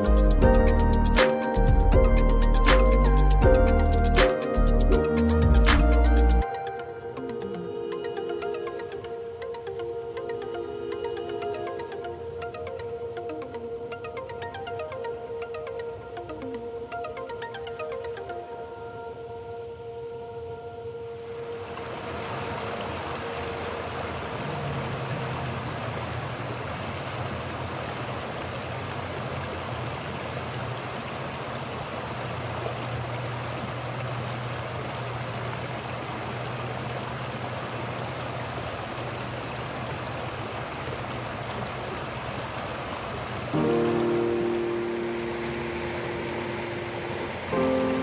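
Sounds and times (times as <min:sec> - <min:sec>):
stream rushing: 0:00.0 - 0:48.0.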